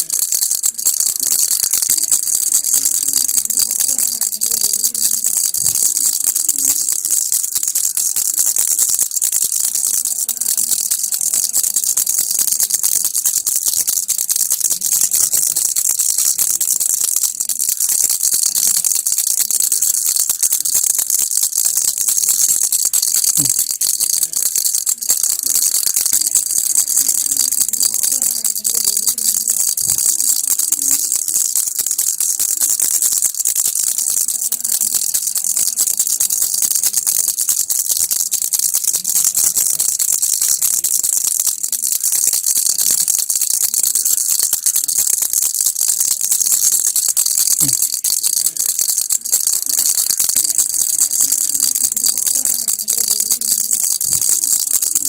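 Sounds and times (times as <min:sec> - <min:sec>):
baby's rattle shaking: 0:00.0 - 0:55.0.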